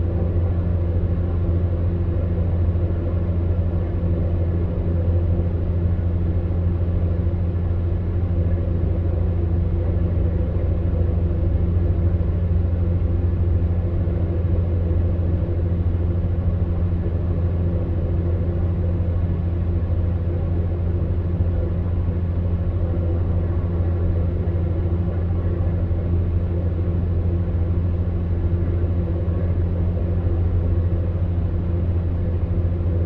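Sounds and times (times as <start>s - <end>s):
fan air rushing: 0.0s - 33.0s
fan heater humming: 0.0s - 33.0s.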